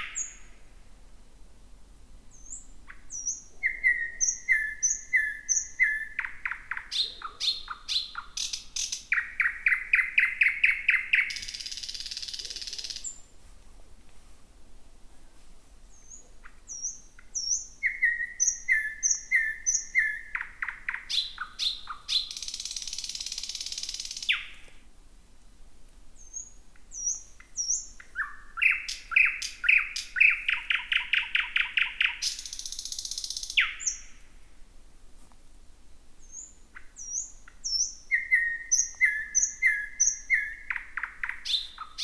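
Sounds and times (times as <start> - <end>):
nightingale singing: 0.0 - 0.6, 2.3 - 13.3, 15.9 - 24.8, 26.2 - 34.4, 36.2 - 42.0.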